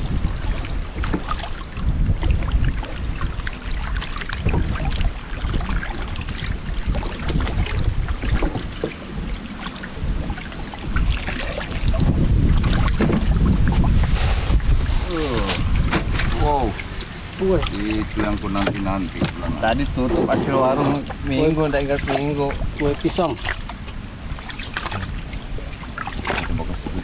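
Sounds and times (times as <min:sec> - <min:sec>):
wind rumble on microphone: 0:00.0 - 0:27.0
paddle splashing water: 0:00.1 - 0:27.0.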